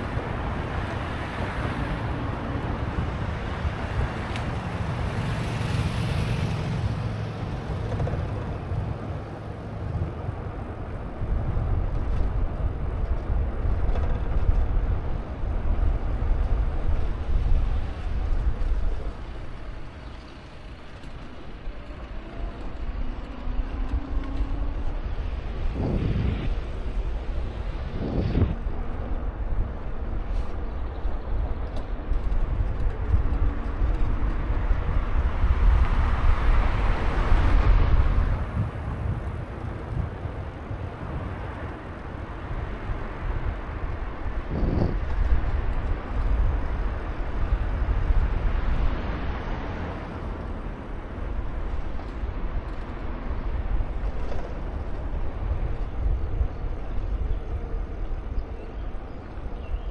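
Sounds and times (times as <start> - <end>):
road and traffic noise: 0.0 - 59.9
wind buffeting microphone: 0.0 - 59.9.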